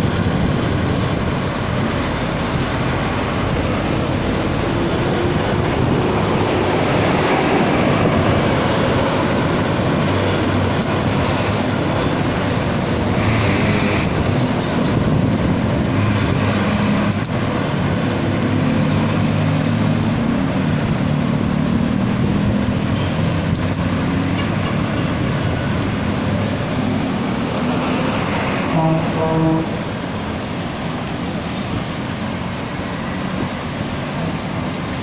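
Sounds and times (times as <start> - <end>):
wind rush on microphone: 0.0 - 28.8, 29.8 - 35.0
low hum of traffic: 0.0 - 35.0.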